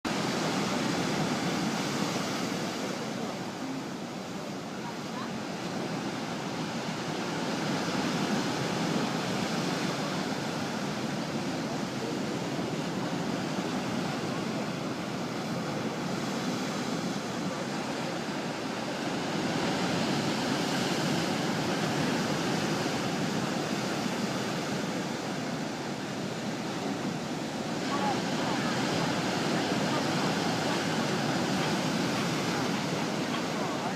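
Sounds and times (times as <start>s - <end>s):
ocean waves breaking: 0.0s - 33.9s.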